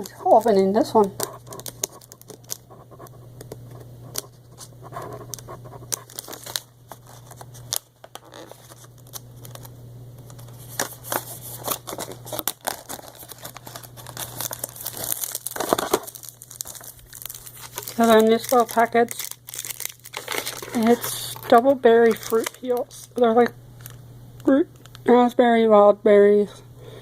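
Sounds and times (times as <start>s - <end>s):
snack packet crinkling and tearing: 0.0s - 25.1s.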